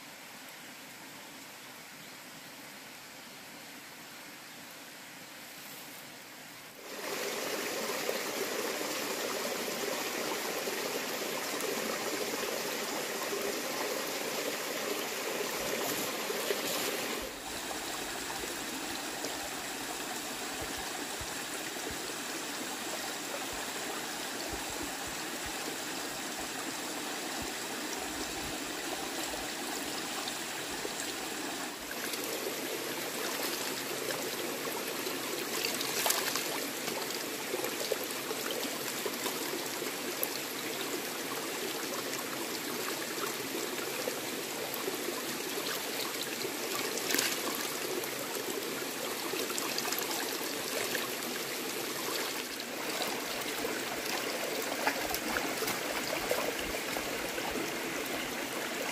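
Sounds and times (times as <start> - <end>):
stream trickling over rocks: 6.0 - 58.9.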